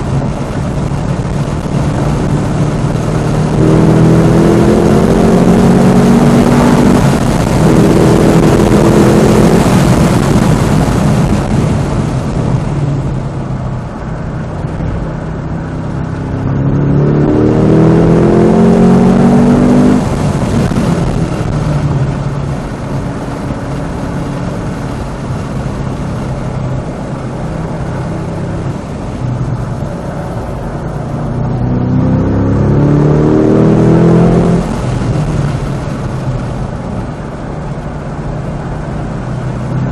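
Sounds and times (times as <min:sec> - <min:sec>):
car engine revving hard: 0:00.0 - 0:13.7, 0:14.4 - 0:39.9.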